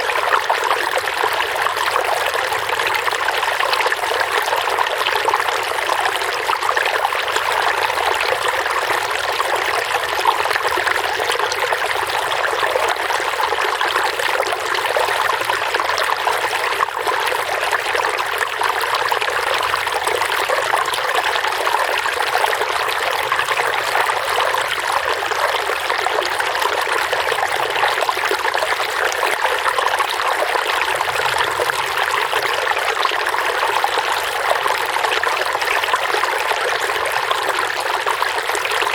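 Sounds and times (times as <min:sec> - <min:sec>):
running water babbling: 0:00.0 - 0:38.9.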